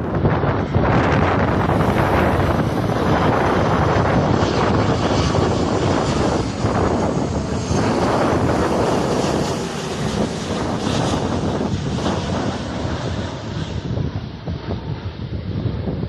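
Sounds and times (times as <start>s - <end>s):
airliner engines rushing: 0.0s - 16.0s.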